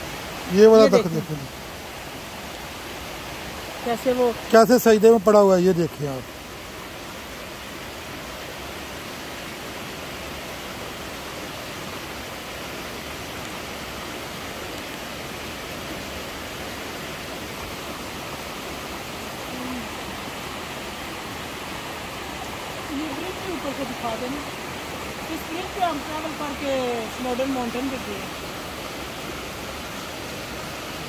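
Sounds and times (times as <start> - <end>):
stream rushing over boulders: 0.0 - 31.0.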